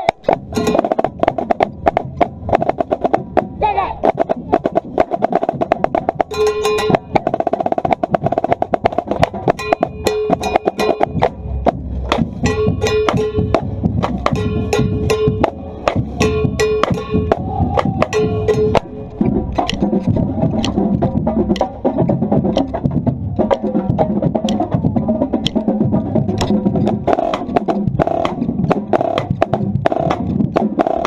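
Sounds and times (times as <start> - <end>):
marching snare drums: 0.0 - 31.0.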